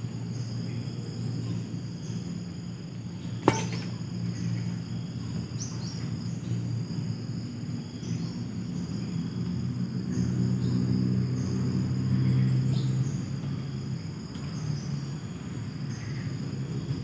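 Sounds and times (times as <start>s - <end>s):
insects trilling: 0.0s - 17.0s
low steady hum: 0.0s - 17.0s.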